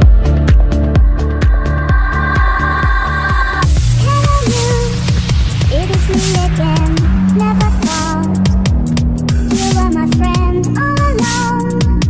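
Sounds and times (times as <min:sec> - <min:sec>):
kick drum: 0:00.0 - 0:11.2
electronic dance music: 0:00.0 - 0:12.0.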